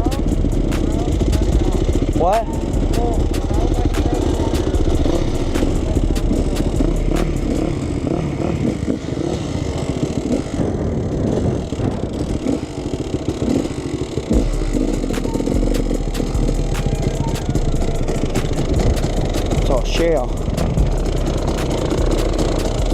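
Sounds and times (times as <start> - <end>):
sharp clicks and clatter: 0.0 - 22.9
two-stroke dirt bike engine revving: 0.0 - 22.9.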